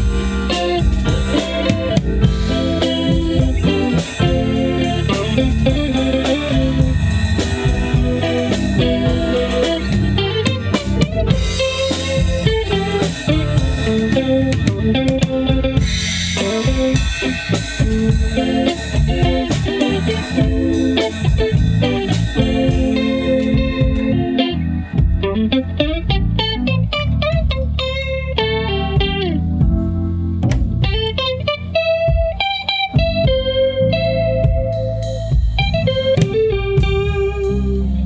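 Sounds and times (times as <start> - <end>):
drum kit: 0.0 - 38.0
guitar: 0.0 - 38.0
organ: 0.0 - 38.0.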